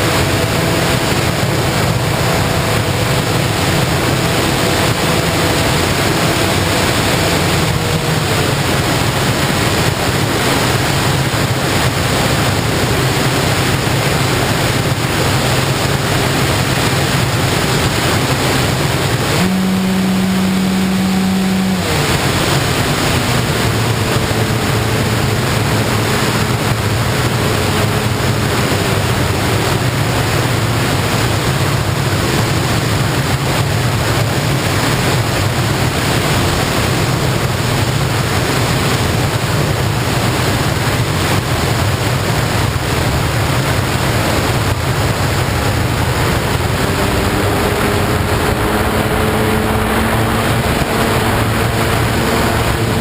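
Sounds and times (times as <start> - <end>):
motor and propeller humming: 0.0 - 53.0
wind rushing on microphone: 0.0 - 53.0.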